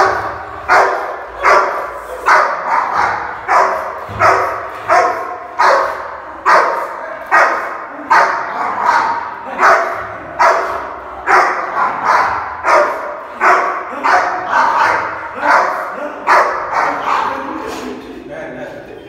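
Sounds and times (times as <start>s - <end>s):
dog barking aggressively: 0.0s - 17.7s.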